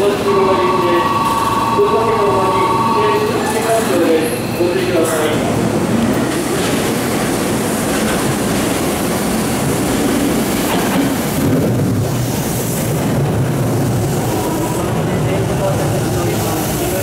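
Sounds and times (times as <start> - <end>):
electric train wheels rumbling on rails: 0.0 - 17.0.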